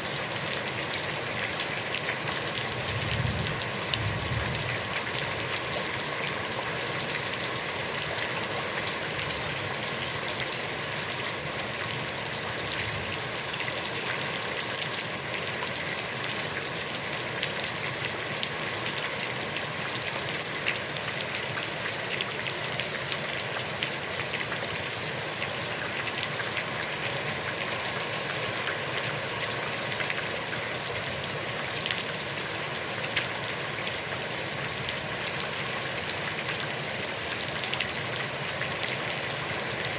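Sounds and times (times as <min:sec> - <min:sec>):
heavy rain on pond: 0:00.0 - 0:39.9.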